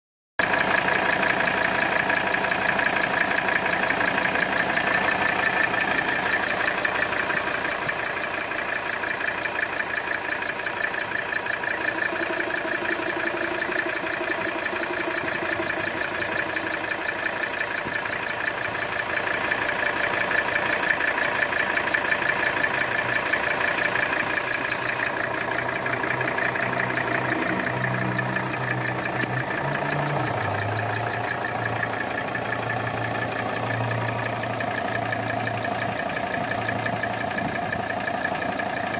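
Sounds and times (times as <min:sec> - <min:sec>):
diesel engine idling: 0:00.4 - 0:38.9.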